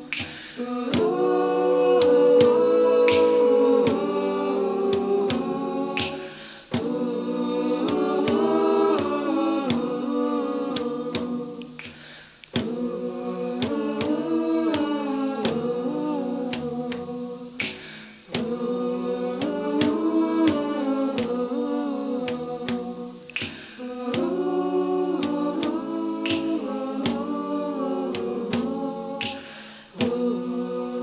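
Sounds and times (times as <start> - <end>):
a cappella group singing: 0.0 - 31.0
clicking beat: 0.0 - 31.0.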